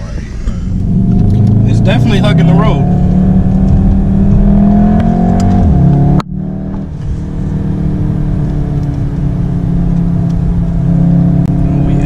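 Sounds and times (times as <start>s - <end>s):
car engine accelerating: 0.0s - 12.0s
engine and road drone: 0.0s - 12.0s.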